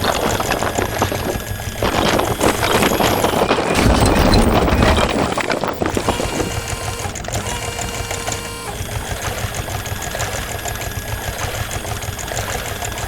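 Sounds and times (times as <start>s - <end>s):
machine chattering: 0.0s - 13.0s.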